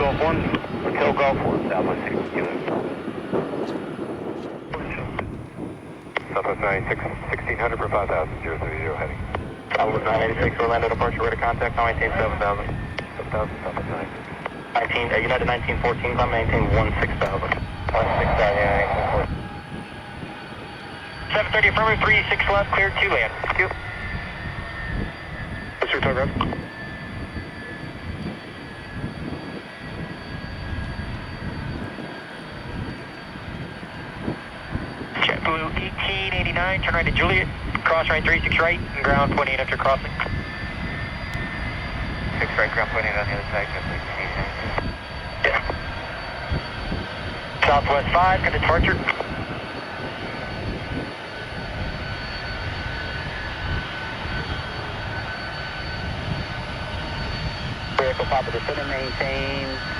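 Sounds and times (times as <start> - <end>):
jet engines rumbling and whining: 0.0 - 59.9.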